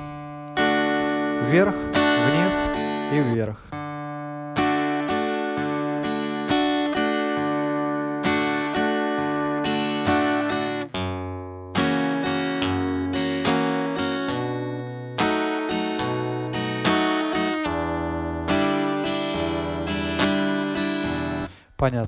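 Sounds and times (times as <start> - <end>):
acoustic guitar strumming: 0.0 - 21.6.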